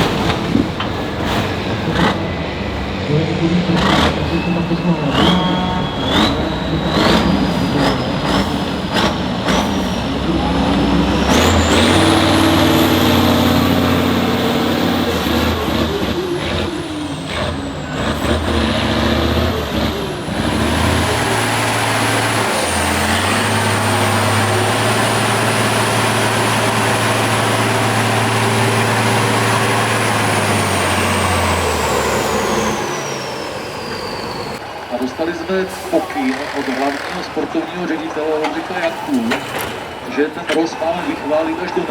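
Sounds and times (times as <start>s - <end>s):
diesel truck engine under load: 0.0s - 41.9s.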